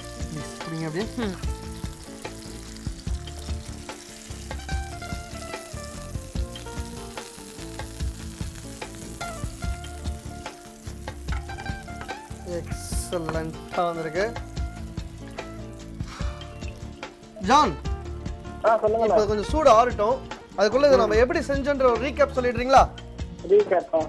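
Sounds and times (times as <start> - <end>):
oil sizzling in a frying pan: 0.0 - 23.6.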